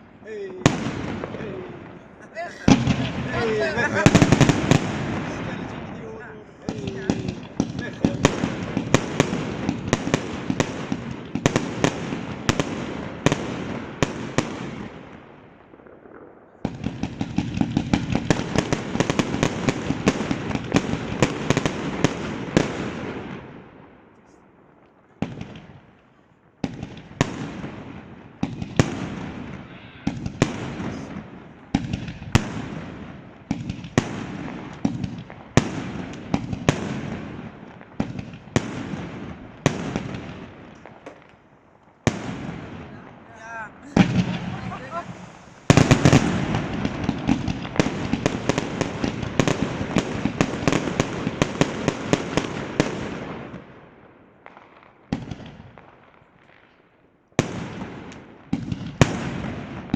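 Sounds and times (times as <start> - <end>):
separate fireworks bangs: 0.0 - 56.7, 57.4 - 59.9
fireworks crackling bangs: 0.0 - 56.8, 57.4 - 59.9.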